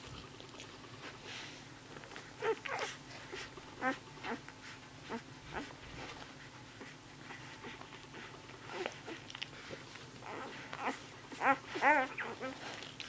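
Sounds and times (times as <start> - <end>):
puppies squeaking and whimpering: 2.2 - 13.0.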